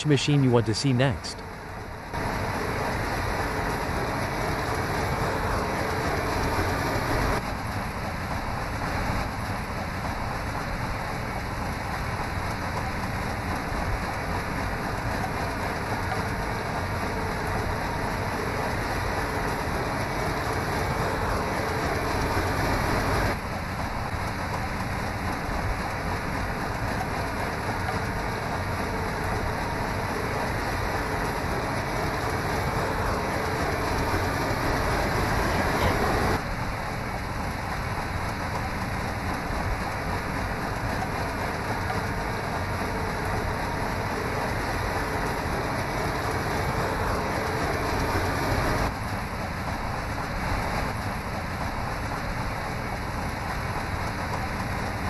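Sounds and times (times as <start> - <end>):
harvester machine noise: 0.0 - 55.0.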